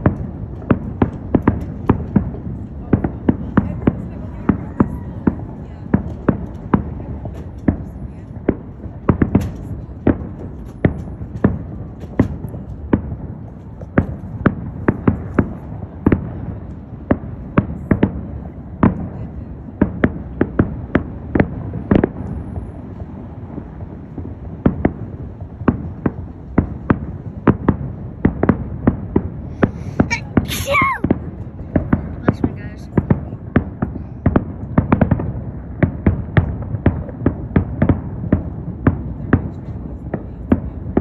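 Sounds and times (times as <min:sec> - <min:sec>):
fireworks bangs: 0:00.0 - 0:41.0.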